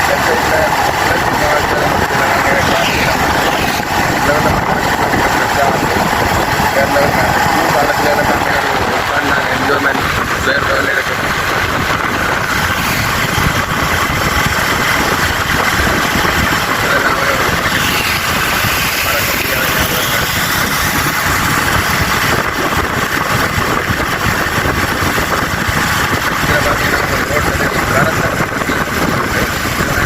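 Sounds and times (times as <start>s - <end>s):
motorcycle engine: 0.0s - 30.0s
road noise: 0.0s - 30.0s.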